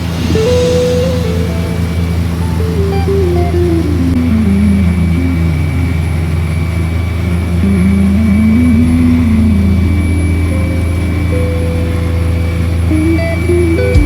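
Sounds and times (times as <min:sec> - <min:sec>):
motorboat engine droning: 0:00.0 - 0:14.0
wavering pitched tone: 0:00.0 - 0:14.0.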